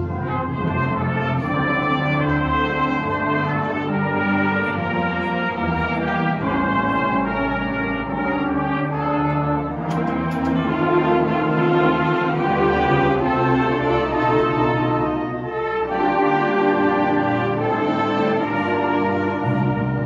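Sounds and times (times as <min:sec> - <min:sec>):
concert band playing: 0:00.0 - 0:20.0.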